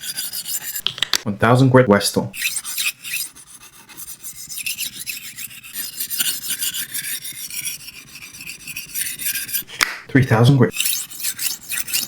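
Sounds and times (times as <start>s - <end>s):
knife grinding on stone: 0.0s - 0.9s, 2.4s - 9.9s, 10.7s - 12.0s.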